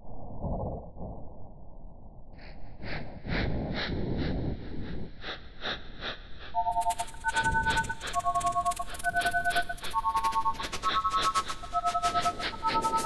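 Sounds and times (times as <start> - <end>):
pulsing breath-like noise: 2.3 - 13.0.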